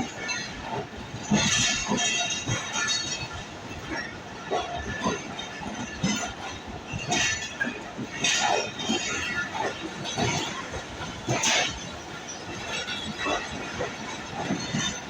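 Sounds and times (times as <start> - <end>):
train wheels clacking on rails: 0.0 - 15.0.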